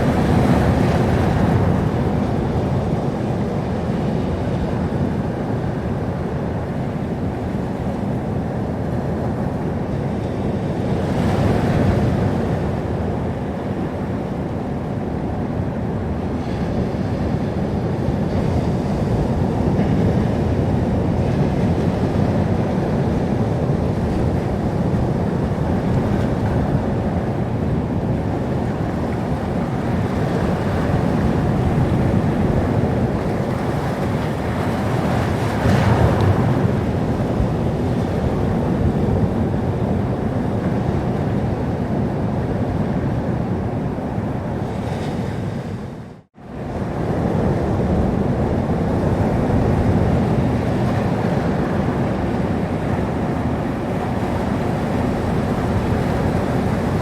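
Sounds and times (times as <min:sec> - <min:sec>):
waves breaking: 0:00.0 - 0:57.0
waves washing ashore: 0:00.0 - 0:57.0.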